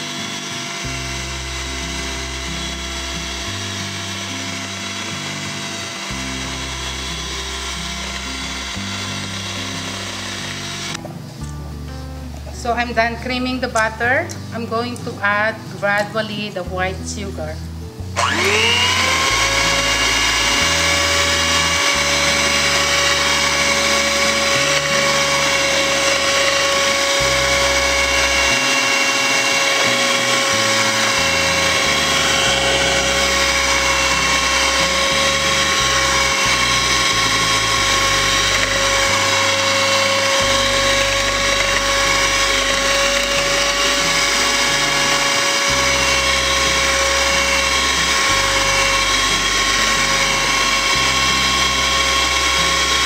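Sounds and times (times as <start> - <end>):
electric hand mixer whining: 0.0 - 11.0, 18.1 - 53.0.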